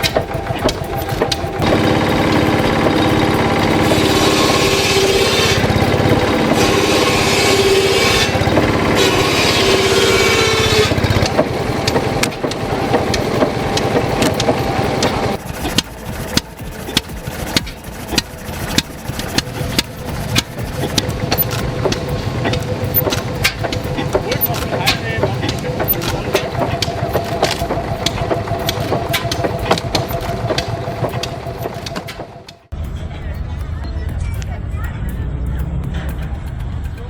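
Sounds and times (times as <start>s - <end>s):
engine sharp knocks: 0.0s - 32.8s
engine running: 0.0s - 37.0s.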